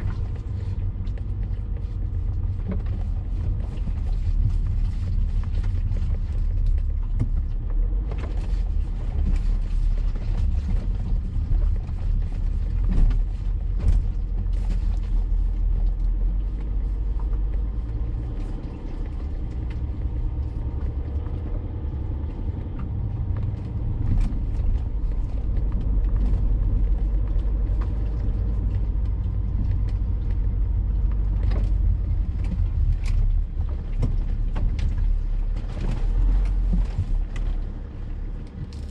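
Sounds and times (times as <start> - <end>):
engine and tyres rumbling: 0.0 - 38.9.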